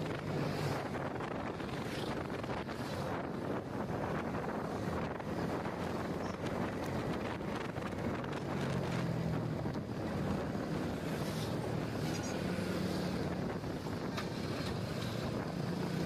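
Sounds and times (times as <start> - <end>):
wind buffeting microphone: 0.0 - 12.2, 13.1 - 16.0
motorcycle engine humming: 0.0 - 16.0.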